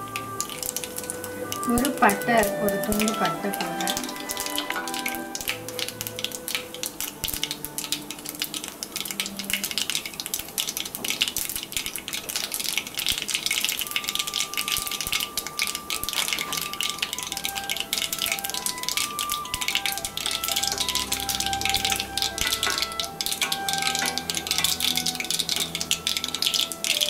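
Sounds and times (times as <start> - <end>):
seeds crackling in hot oil: 0.0 - 27.0.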